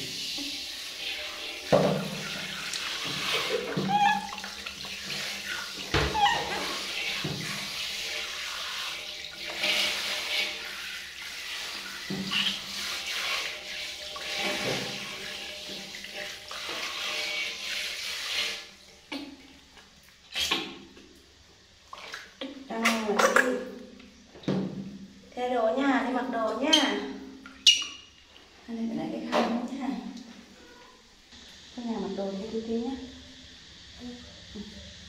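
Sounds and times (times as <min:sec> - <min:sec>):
shower spraying and splashing water: 0:00.0 - 0:35.0.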